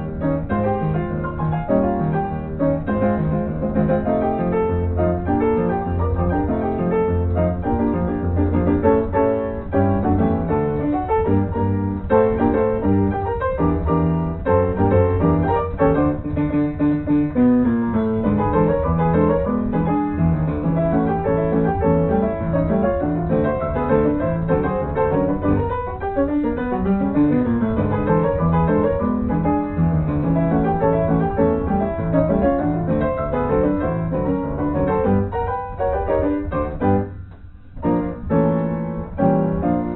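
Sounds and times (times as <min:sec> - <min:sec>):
piano music with bass line: 0:00.0 - 0:39.9.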